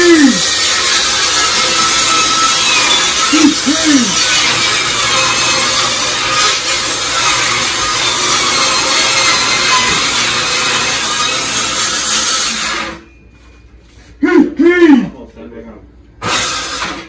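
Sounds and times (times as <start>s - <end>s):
table saw ripping plywood: 0.0s - 13.1s, 16.2s - 17.0s.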